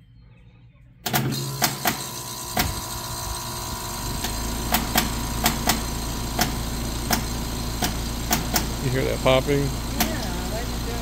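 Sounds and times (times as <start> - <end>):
air conditioner humming: 0.0 - 11.0
air conditioner popping: 1.0 - 11.0.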